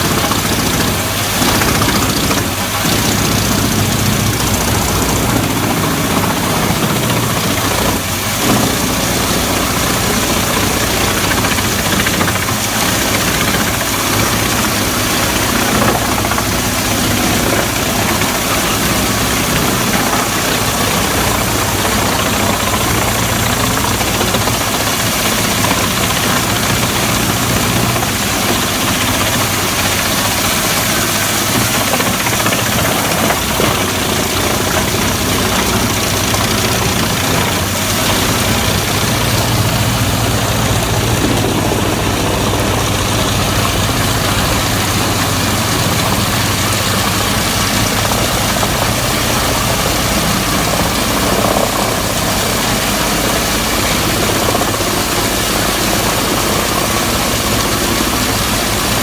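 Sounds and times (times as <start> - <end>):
wood chipper running: 0.0 - 59.0.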